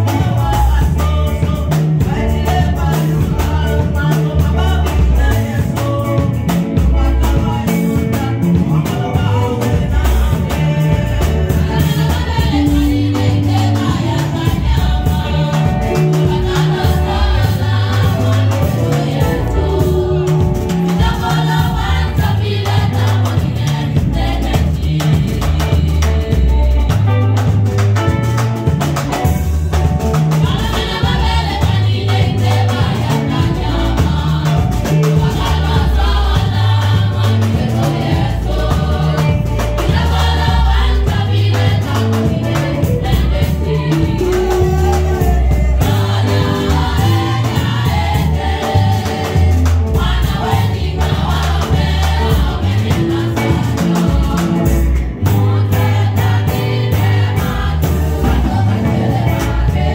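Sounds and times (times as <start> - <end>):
gospel choir singing: 0.0 - 59.9
live band playing: 0.0 - 59.9.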